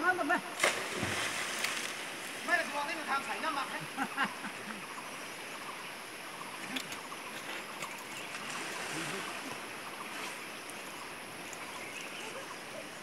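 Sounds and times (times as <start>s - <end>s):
running water rushing: 0.1s - 13.0s.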